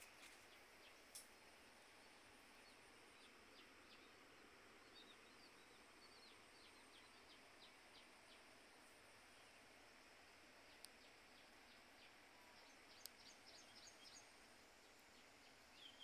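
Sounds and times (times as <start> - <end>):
faint open-air hiss: 0.0 - 16.0.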